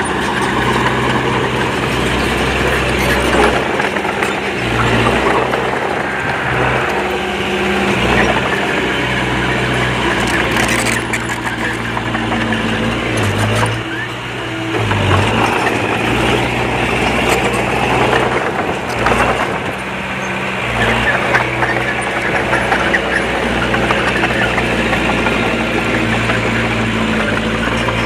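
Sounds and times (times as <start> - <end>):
heavy machinery diesel engine: 0.0 - 28.0.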